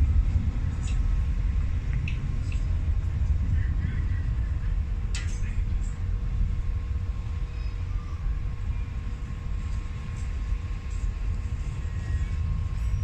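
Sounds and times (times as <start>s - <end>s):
airliner cabin rumble: 0.0s - 13.0s
faint steady hum: 0.0s - 13.0s.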